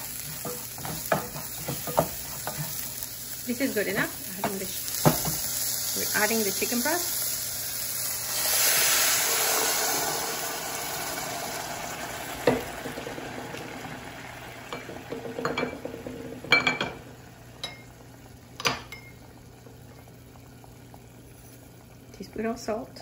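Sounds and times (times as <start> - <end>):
broth sizzling in hot pot: 0.0 - 23.0.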